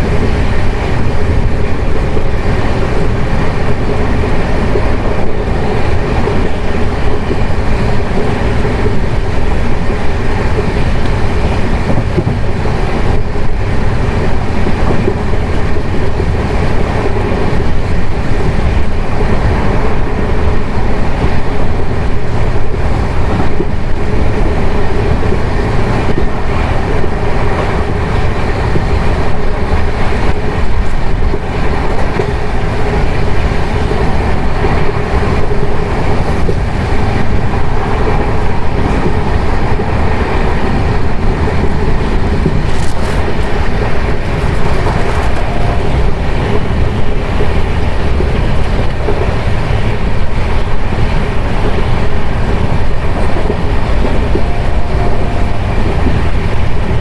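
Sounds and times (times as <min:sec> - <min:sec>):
constant train hum: 0:00.0 - 0:57.0
train wheels rumbling on rails: 0:00.0 - 0:57.0.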